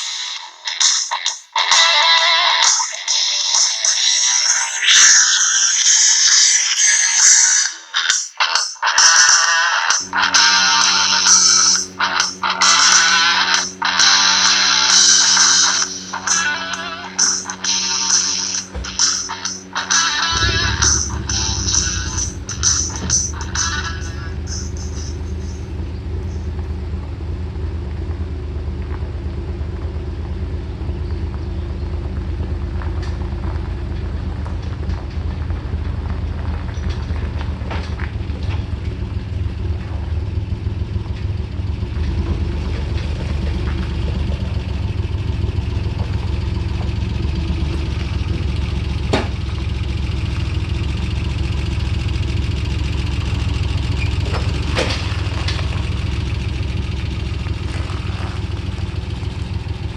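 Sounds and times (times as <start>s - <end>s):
engine idling: 9.8s - 59.9s.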